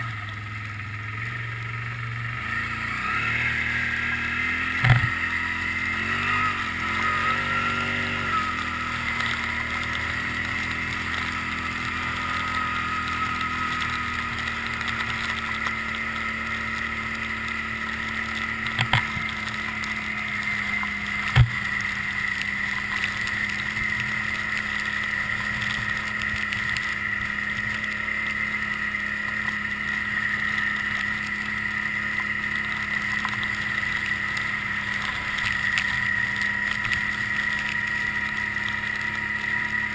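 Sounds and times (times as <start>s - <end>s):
atv engine whining: 0.0s - 39.9s.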